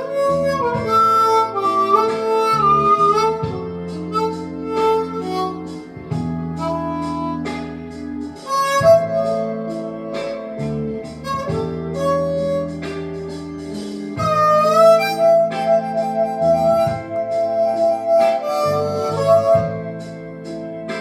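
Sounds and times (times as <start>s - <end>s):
harmonica playing blues melody: 0.0s - 21.0s
lower accompaniment: 0.0s - 21.0s.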